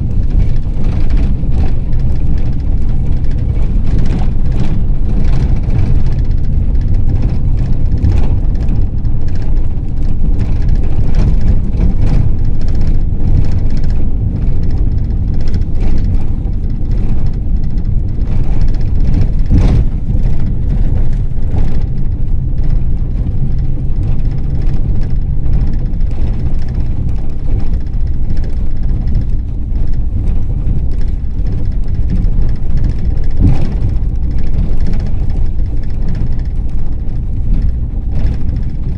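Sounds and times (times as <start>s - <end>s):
knocks and rattles: 0.0s - 38.9s
minibus engine and road rumble: 0.0s - 38.9s.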